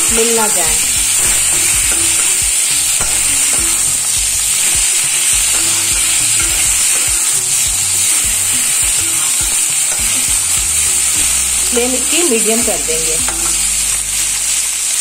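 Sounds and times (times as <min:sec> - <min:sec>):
spoon scraping a metal pan: 0:00.0 - 0:15.0
vegetables sizzling in hot oil: 0:00.0 - 0:15.0.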